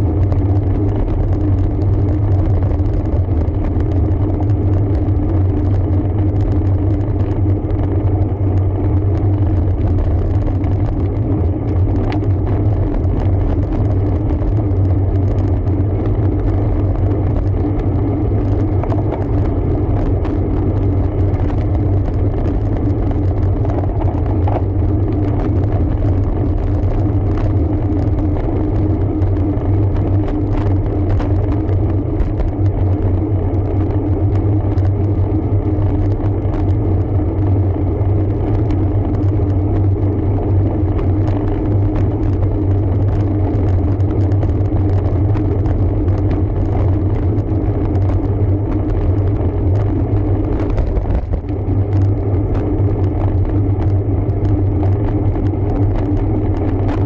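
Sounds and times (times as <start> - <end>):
tyres rumbling on road: 0.0 - 57.0
wind on microphone: 0.0 - 57.0
bike clicks and rattles: 0.1 - 57.0.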